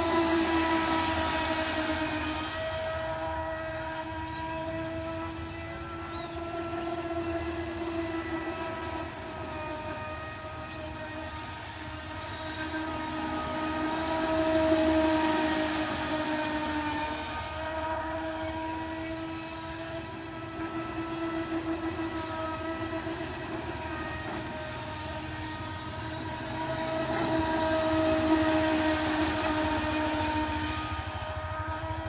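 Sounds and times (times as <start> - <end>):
model boat motor whine: 0.0 - 32.0.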